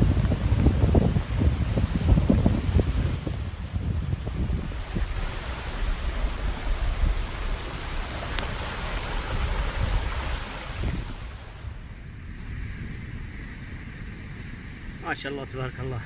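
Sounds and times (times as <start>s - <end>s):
heavy rain hiss: 0.0s - 16.0s
wind rumbling on microphone: 0.0s - 16.0s.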